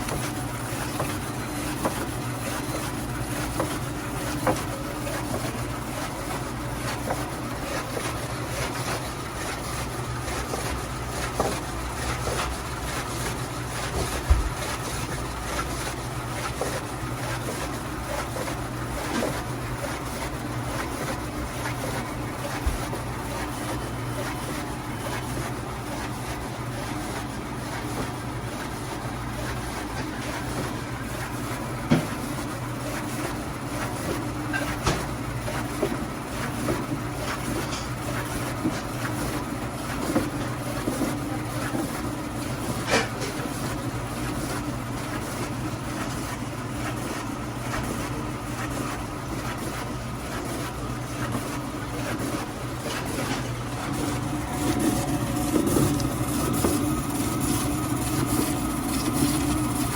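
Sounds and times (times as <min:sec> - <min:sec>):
food slicing machine running: 0:00.0 - 0:59.9.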